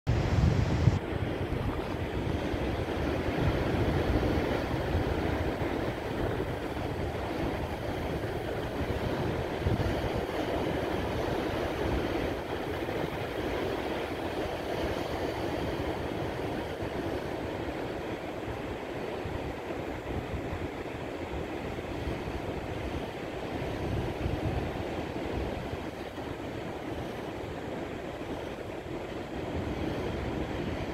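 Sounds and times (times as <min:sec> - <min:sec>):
waves breaking over rocks: 0:00.2 - 0:30.9.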